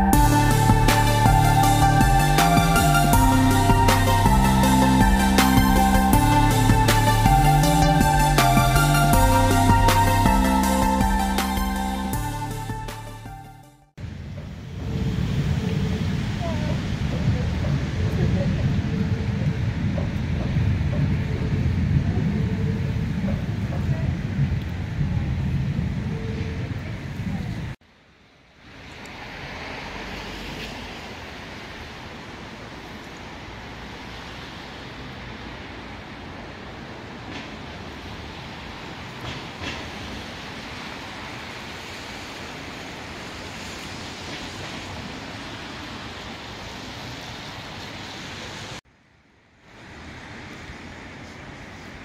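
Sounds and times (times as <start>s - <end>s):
distant traffic rush: 0.0s - 52.0s.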